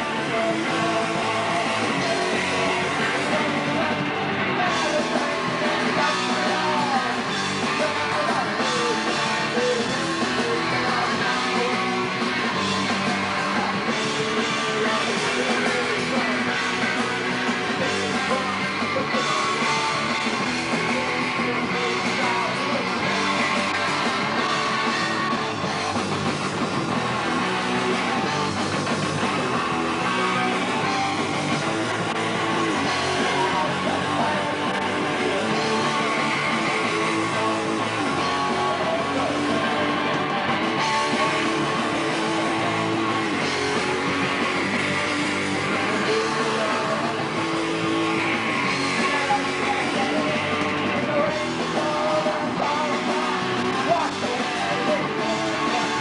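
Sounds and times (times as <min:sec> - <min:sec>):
drums: 0:00.0 - 0:56.0
electric guitars: 0:00.0 - 0:56.0.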